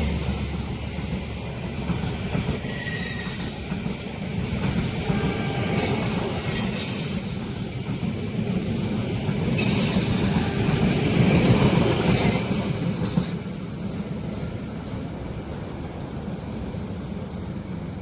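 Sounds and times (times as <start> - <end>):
hissing rail noise: 0.0 - 18.0
train wheels rumbling on rails: 0.0 - 18.0.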